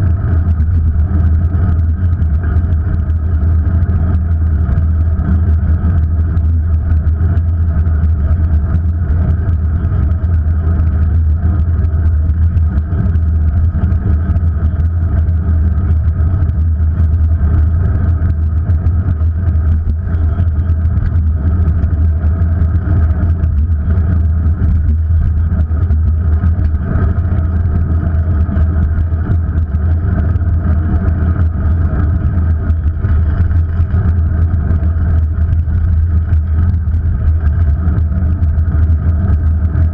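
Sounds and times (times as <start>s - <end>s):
vehicle engine cruising: 0.0s - 39.9s
wind and road noise drone: 0.0s - 39.9s.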